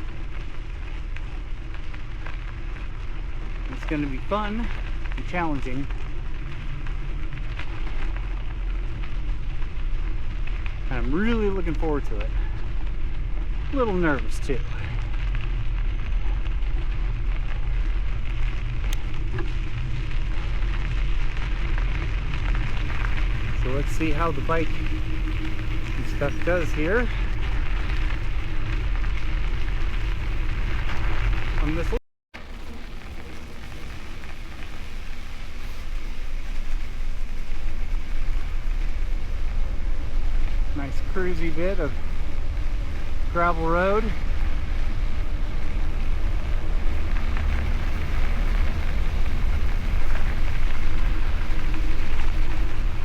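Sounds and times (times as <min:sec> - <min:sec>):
wind on microphone: 0:00.0 - 0:32.0, 0:32.8 - 0:53.0
bicycle tyres on gravel: 0:00.0 - 0:53.0
bike ticks and rattles: 0:00.0 - 0:53.0.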